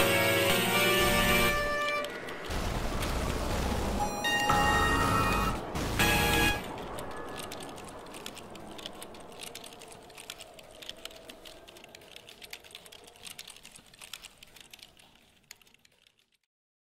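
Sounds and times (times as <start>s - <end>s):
rapid irregular clicks: 0.0s - 16.5s.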